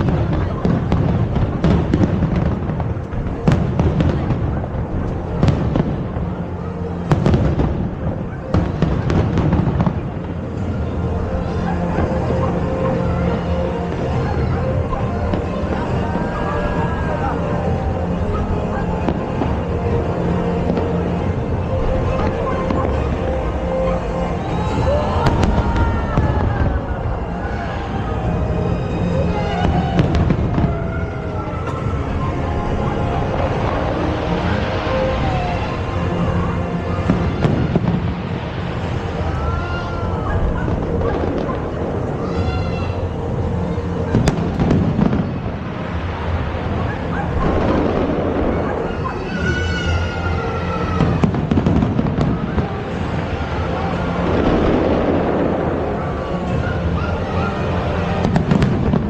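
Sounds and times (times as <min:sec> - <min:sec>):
fireworks cracking: 0:00.0 - 0:57.1, 0:57.7 - 0:59.0
music playing: 0:00.0 - 0:59.0.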